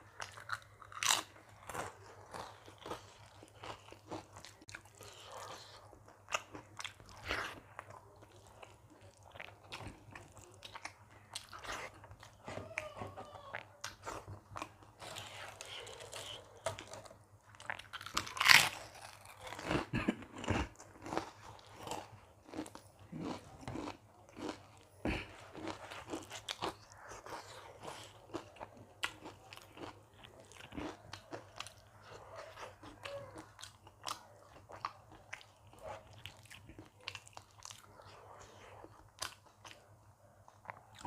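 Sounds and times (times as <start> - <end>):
person chewing crunchy food: 0.0 - 41.0.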